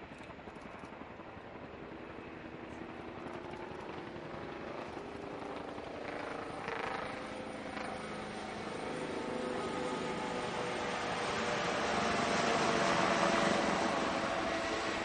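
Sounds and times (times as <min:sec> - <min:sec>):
helicopter rotor chopping: 0:00.0 - 0:15.0
helicopter turbine whine: 0:00.0 - 0:15.0.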